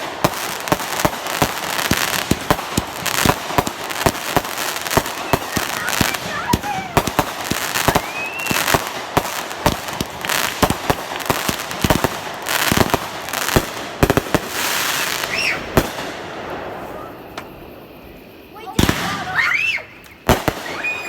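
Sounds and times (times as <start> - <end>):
fireworks bangs and pops: 0.0 - 17.7, 18.6 - 21.0
fireworks hissing and crackling: 0.0 - 21.0
fireworks whistles: 0.0 - 21.0.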